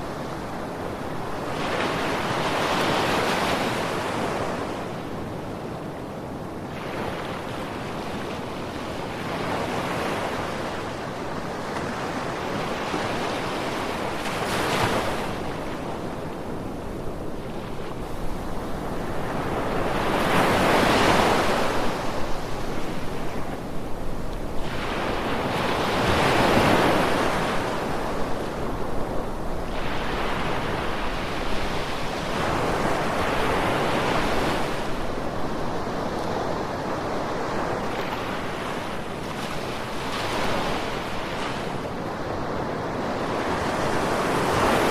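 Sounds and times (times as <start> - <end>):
ocean waves breaking on beach: 0.0 - 44.9
wind: 0.0 - 44.9.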